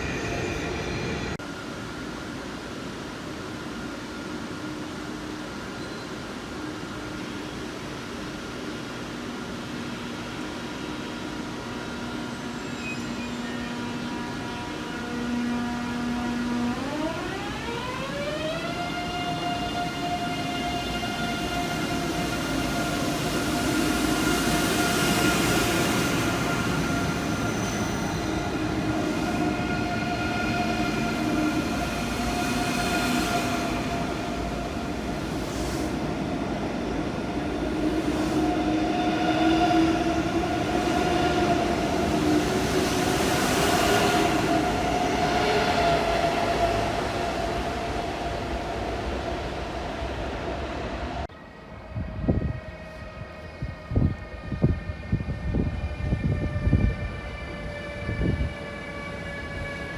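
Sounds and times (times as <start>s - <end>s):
train whining tones: 10.9s - 59.9s.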